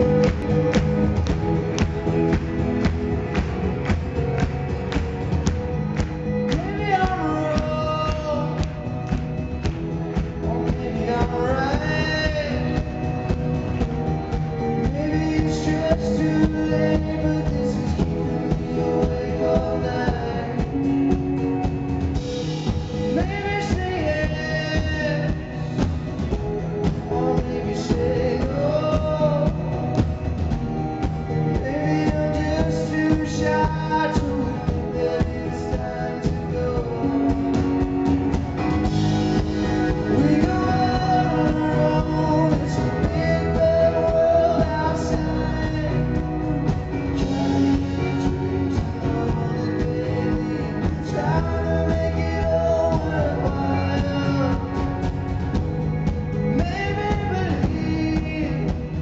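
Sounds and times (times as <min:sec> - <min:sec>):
man singing: 0:00.0 - 0:03.3, 0:05.5 - 0:59.0
acoustic guitar: 0:00.0 - 0:59.0
bass guitar: 0:00.0 - 0:59.0
drums keeping a steady beat: 0:00.0 - 0:59.0.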